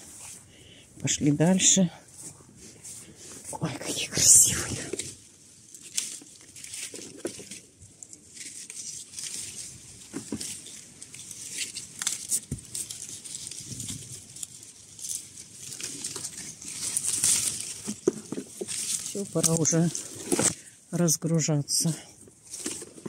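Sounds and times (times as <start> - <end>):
leaves and twigs rustling: 0.0 - 23.0.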